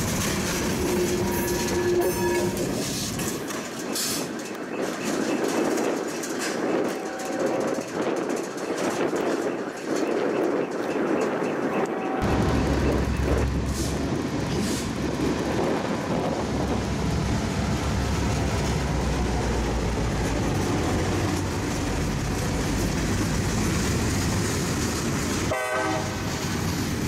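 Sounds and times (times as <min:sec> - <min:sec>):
diesel locomotive engine rumble: 0:00.0 - 0:27.0
wheels clattering on rails: 0:00.0 - 0:27.0.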